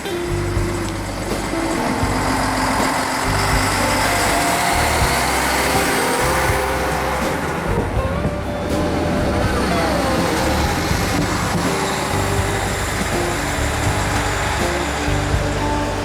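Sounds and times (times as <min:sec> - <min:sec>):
diesel train engine droning: 0:00.0 - 0:16.0.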